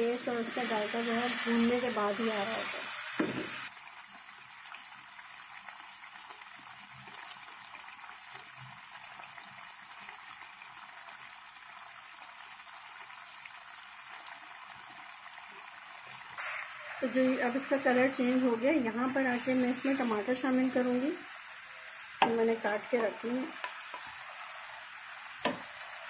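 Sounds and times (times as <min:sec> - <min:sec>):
liver sizzling in a pan: 0:00.0 - 0:26.0.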